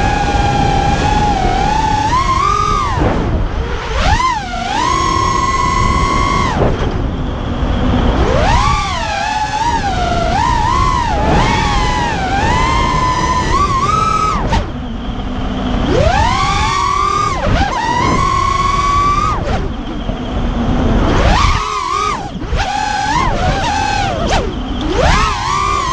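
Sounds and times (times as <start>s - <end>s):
low wind rumble: 0.0s - 25.9s
quadcopter motors whining: 0.0s - 25.9s.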